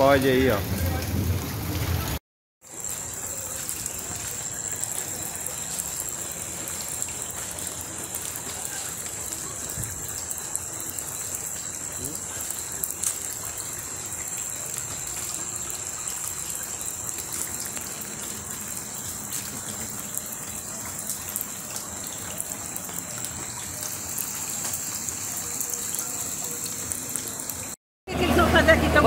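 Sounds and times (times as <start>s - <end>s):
floodwater gushing: 0.0s - 29.0s.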